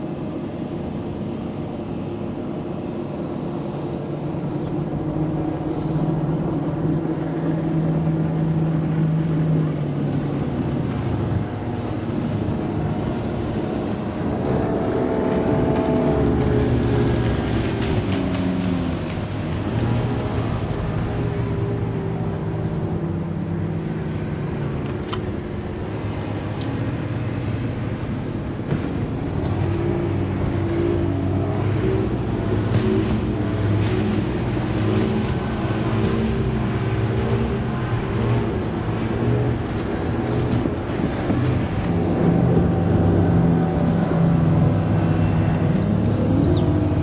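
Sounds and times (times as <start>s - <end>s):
boat outboard motors: 0.0s - 47.0s.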